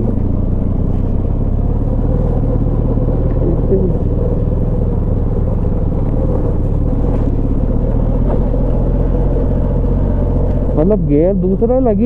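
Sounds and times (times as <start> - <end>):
motorcycle engine running at low speed: 0.0 - 12.0.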